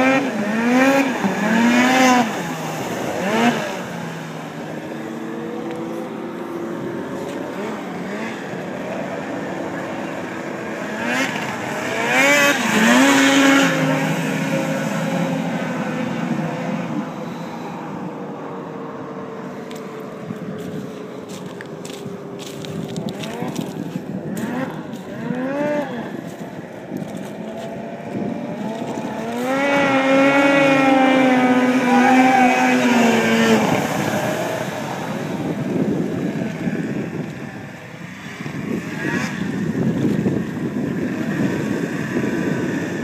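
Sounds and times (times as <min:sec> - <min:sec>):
snowmobile engine whining: 0:00.0 - 0:43.0.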